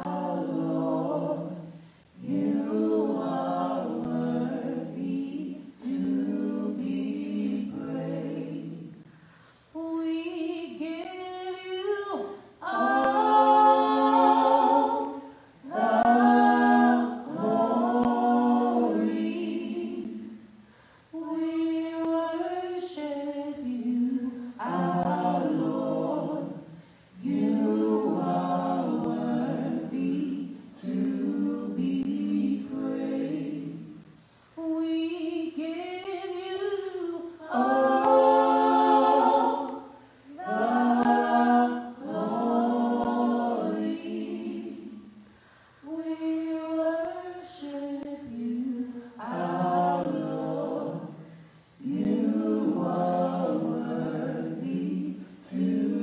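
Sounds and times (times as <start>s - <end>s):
group singing a cappella: 0.0s - 56.0s.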